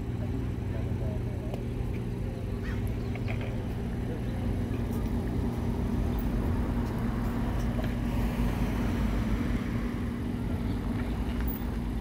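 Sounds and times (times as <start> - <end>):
constant low hum: 0.0 - 12.0
low outdoor rumble: 0.0 - 12.0.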